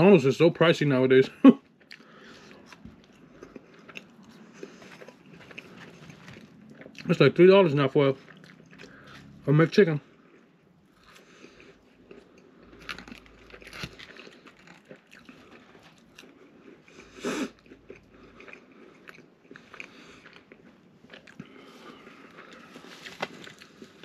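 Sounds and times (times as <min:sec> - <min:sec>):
chewing and biting food: 0:01.6 - 0:09.4, 0:10.0 - 0:24.0.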